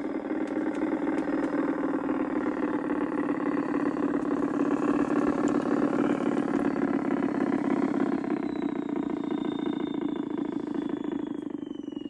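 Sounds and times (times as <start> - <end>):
faint high whine: 0.0 - 12.0
model train motor hum: 0.0 - 12.0.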